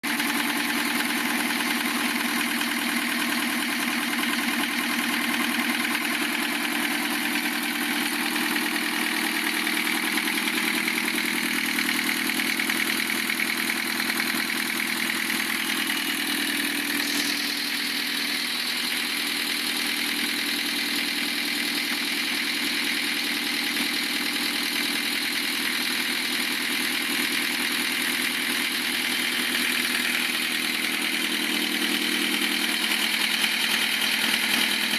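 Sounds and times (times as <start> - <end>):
engine knocking: 0.0 - 34.9
diesel engine idling: 0.1 - 34.9.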